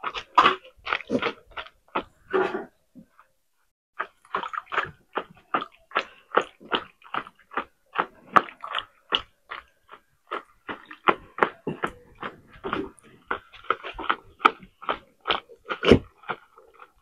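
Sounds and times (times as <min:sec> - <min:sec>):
wooden spoon mashing wet pulp: 0:00.0 - 0:03.4, 0:04.0 - 0:17.0.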